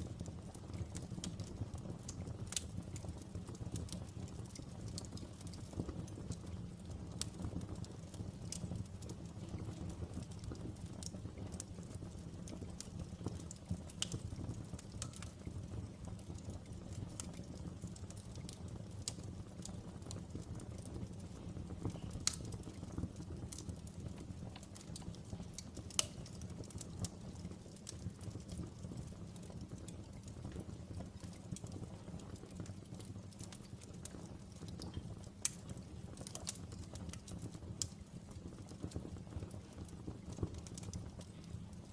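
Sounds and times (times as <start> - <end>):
fire crackles and pops: 0.0 - 41.9
wood fire rumbling: 0.0 - 41.9.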